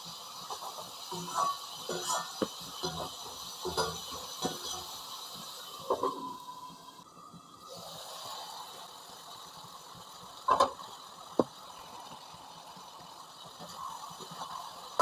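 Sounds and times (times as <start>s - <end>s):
food sizzling in a hot pan: 0.0s - 15.0s.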